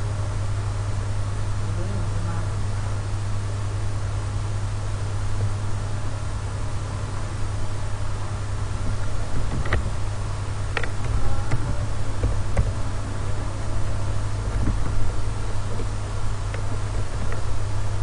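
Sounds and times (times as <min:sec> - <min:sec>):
low electrical hum and hiss: 0:00.0 - 0:18.0.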